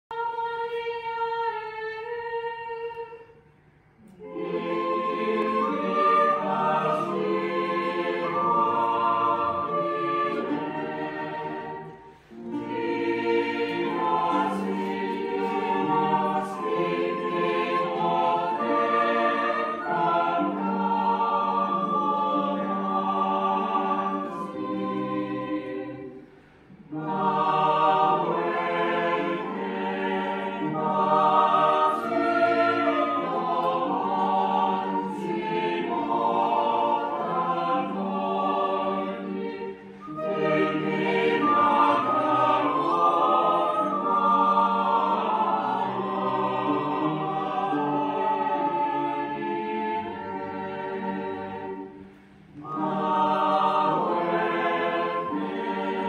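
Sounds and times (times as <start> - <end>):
chamber choir singing: 0.1 - 56.0.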